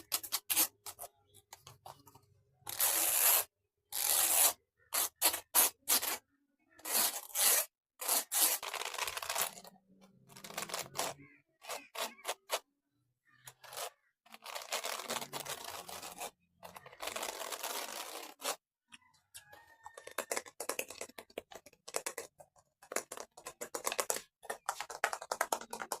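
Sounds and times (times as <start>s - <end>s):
fingers scraping and rustling: 0.0s - 6.2s, 6.8s - 12.7s, 13.3s - 26.0s.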